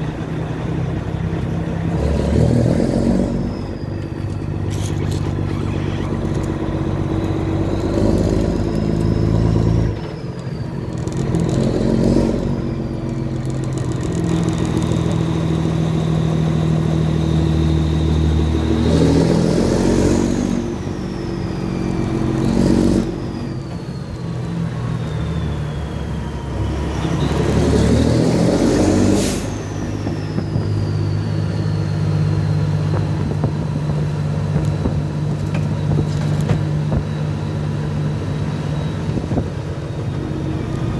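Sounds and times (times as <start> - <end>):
diesel truck engine surging: 0.0 - 40.9
turbocharger whistle: 1.9 - 40.9.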